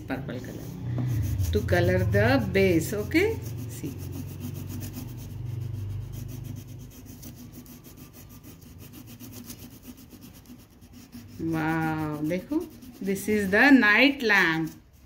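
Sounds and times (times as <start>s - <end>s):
low steady hum: 0.0s - 15.0s
crayon rubbing on paper: 0.2s - 15.0s.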